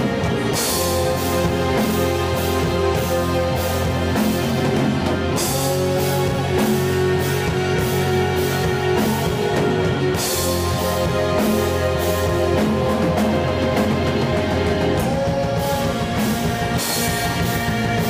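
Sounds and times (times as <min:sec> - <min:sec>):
metal band playing: 0:00.0 - 0:18.0.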